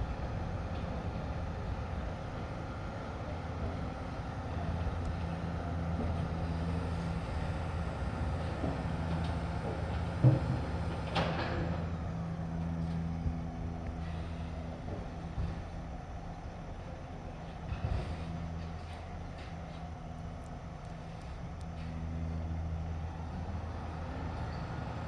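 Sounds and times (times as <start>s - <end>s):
garbage truck engine running: 0.0s - 25.0s.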